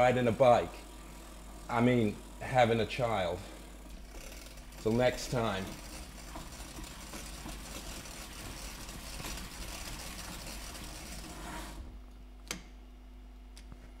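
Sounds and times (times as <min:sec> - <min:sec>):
bicycle drivetrain noise: 0:00.0 - 0:11.9
low steady hum: 0:00.0 - 0:14.0.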